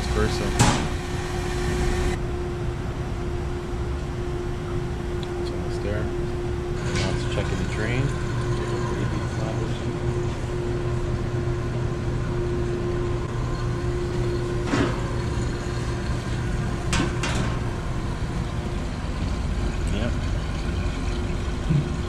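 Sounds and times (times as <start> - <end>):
hvac machinery humming: 0.0 - 22.0.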